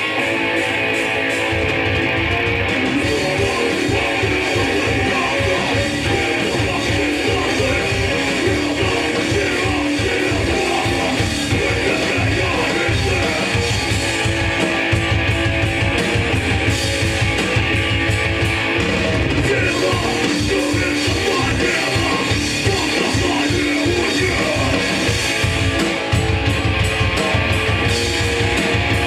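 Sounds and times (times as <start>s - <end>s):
punk band playing live: 0.0s - 29.0s.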